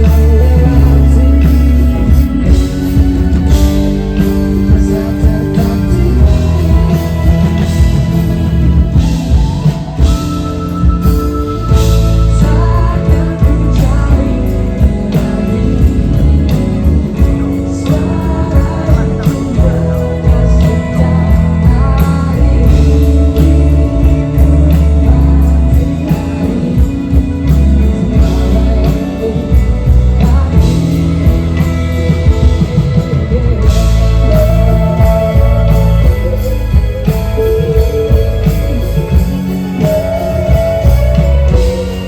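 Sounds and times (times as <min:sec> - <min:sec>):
bass guitar: 0:00.0 - 0:42.0
drum kit: 0:00.0 - 0:42.0
electric guitar: 0:00.0 - 0:42.0
person singing: 0:00.0 - 0:42.0.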